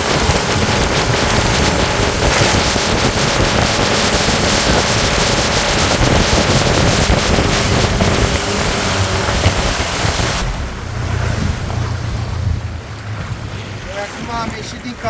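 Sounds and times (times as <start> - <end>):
boat motor running: 0.0 - 15.0
water rushing along hull: 0.0 - 15.0
wind buffeting microphone: 0.0 - 15.0.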